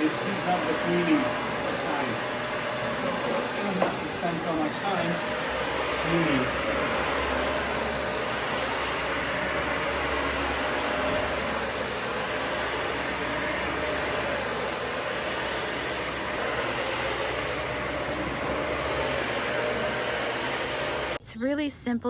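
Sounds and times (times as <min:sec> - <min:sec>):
vacuum cleaner running: 0:00.0 - 0:21.2.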